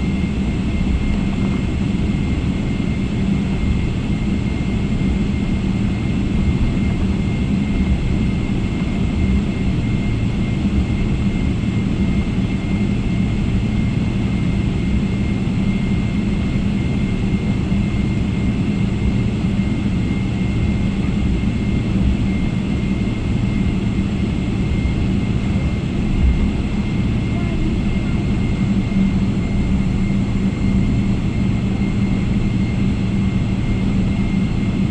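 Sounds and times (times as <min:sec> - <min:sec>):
jet engine cabin drone: 0:00.0 - 0:34.9.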